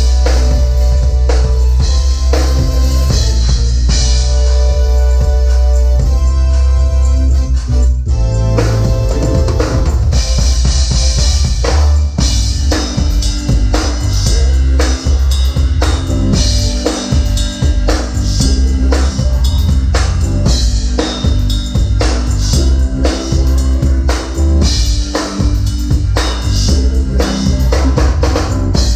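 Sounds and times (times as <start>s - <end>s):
drum kit strikes: 0.0s - 6.4s, 8.2s - 28.9s
live band playing a groove: 0.0s - 28.9s
steady bass: 0.0s - 28.9s.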